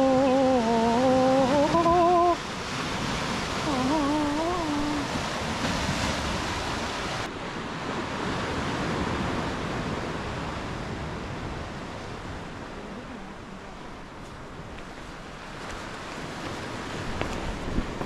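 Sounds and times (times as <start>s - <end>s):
surf washing on rocks: 0.0s - 18.0s
wind on microphone: 0.0s - 18.0s.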